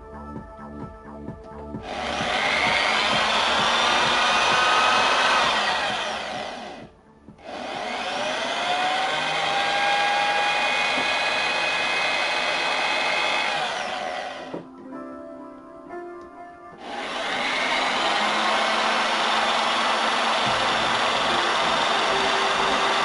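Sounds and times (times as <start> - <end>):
electric drill boring: 1.8 - 14.6, 16.8 - 23.0.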